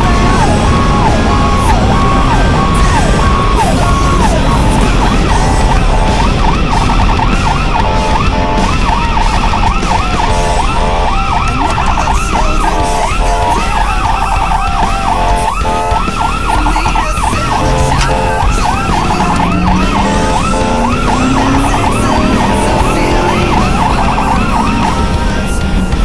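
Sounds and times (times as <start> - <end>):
emergency siren yelping and wailing: 0.0 - 26.0
engine and road noise: 0.0 - 26.0.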